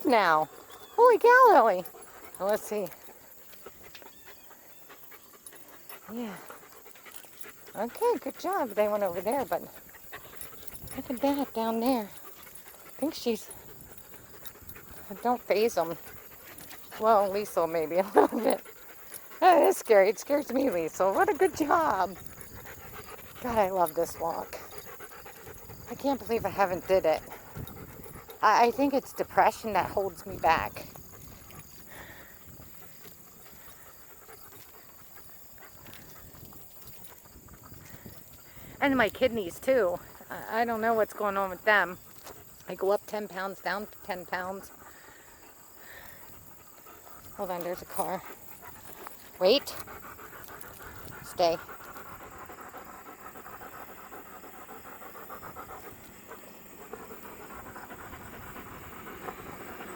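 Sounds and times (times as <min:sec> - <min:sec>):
footsteps of person and dogs: 0:00.0 - 0:59.9.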